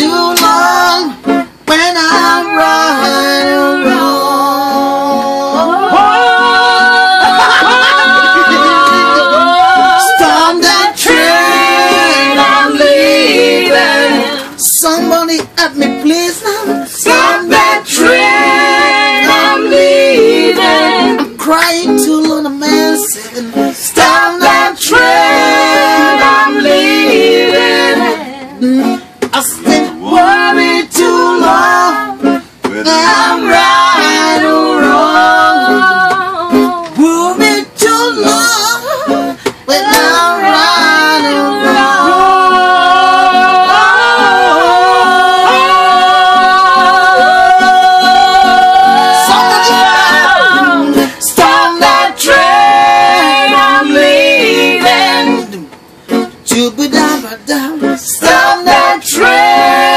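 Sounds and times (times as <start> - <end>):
acoustic guitar: 0.0 - 59.9
woman singing: 1.9 - 55.7.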